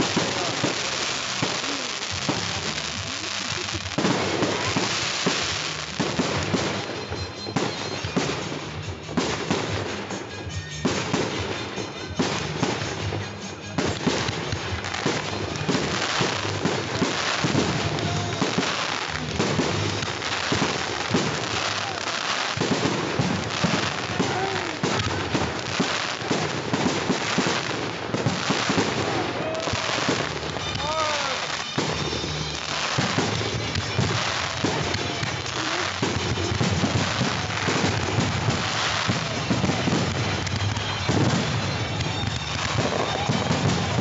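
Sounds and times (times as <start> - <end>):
fireworks bursting and crackling: 0.0 - 44.0.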